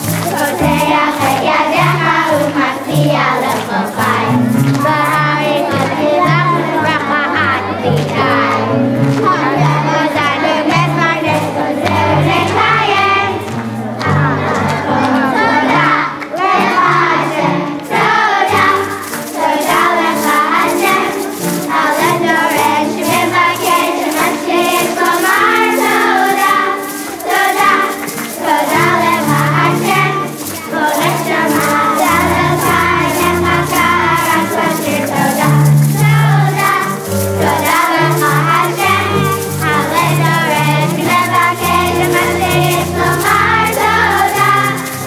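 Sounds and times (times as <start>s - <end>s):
children's choir singing: 0.0s - 45.0s
instrumental accompaniment with beat: 0.0s - 45.0s.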